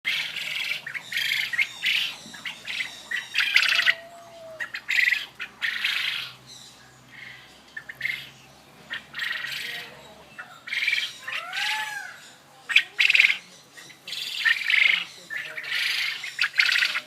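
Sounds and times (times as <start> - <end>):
birds squawking harshly: 0.1 - 17.0.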